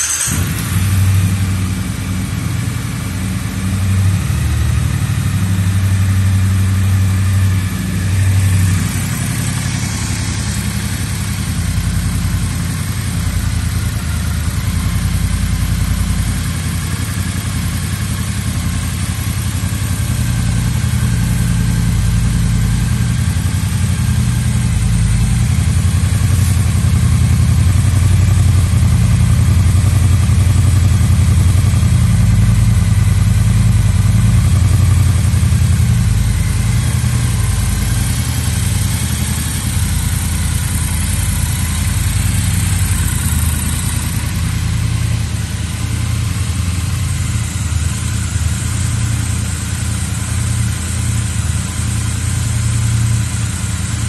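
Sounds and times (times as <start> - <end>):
motorcycle engine idling: 0.1 - 54.0.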